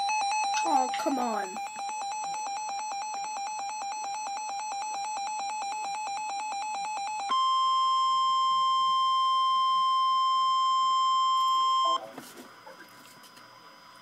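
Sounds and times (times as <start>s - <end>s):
steady attention tone: 0.0s - 12.8s.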